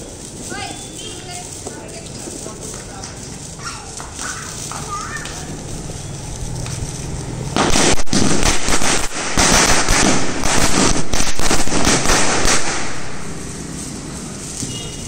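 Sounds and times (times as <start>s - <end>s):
firecrackers banging: 0.0s - 15.0s.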